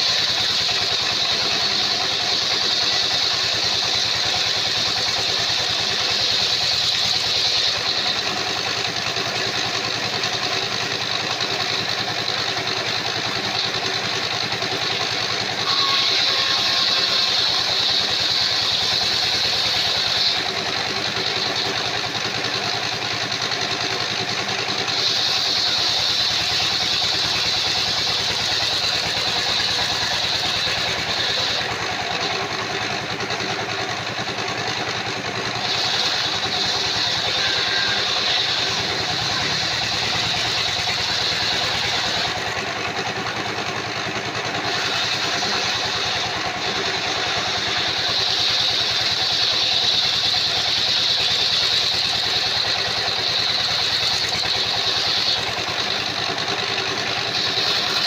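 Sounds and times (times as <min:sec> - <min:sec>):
circular saw running: 0:00.0 - 0:58.0
high-pitched sawing through timber: 0:00.0 - 0:58.0.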